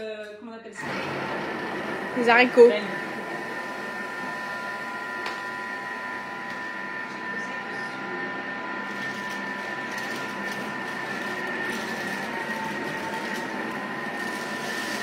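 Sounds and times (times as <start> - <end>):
food mixer motor whine: 0.8 - 15.0.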